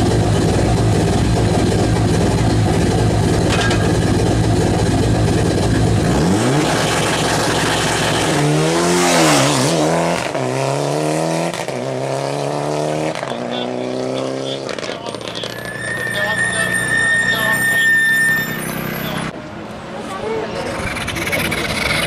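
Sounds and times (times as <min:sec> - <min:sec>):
rally car engine revving: 0:00.0 - 0:19.3.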